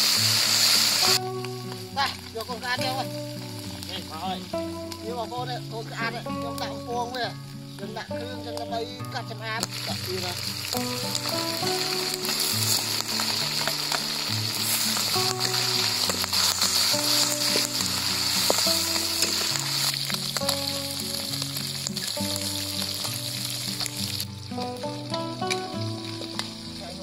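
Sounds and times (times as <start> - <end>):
frying in hot oil sizzling: 0.0 - 27.0.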